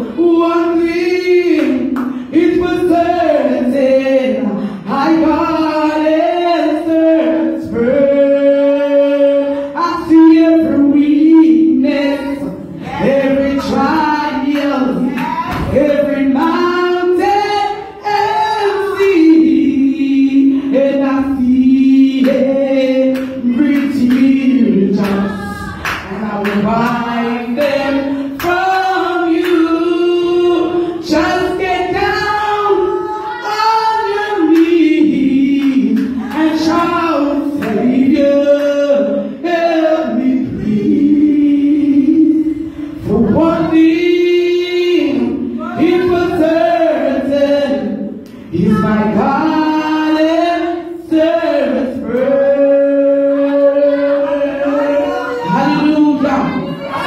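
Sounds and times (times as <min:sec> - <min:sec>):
voices singing along: 0:00.0 - 0:57.0
woman singing gospel: 0:00.0 - 0:57.0.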